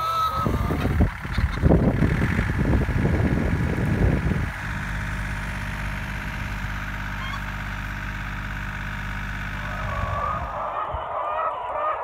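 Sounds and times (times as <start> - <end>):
tractor engine idling: 0.0 - 11.8.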